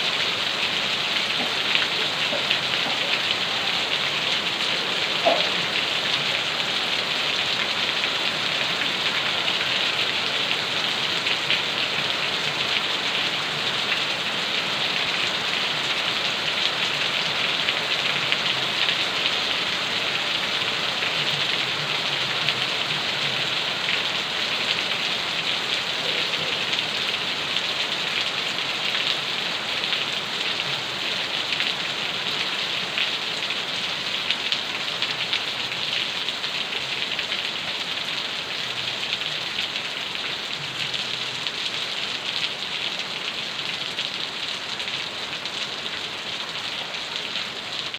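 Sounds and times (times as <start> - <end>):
rain pattering on surfaces: 0.0 - 47.9.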